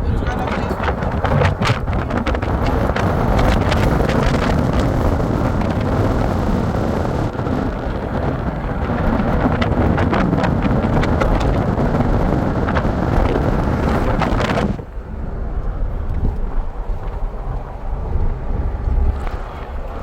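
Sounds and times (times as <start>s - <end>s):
vehicle rumble: 0.0s - 20.0s
wind buffeting microphone: 0.0s - 20.0s.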